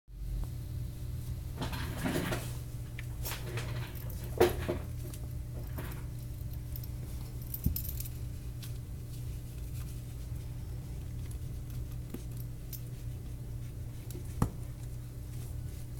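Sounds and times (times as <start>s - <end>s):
steady low hum: 0.1s - 15.9s.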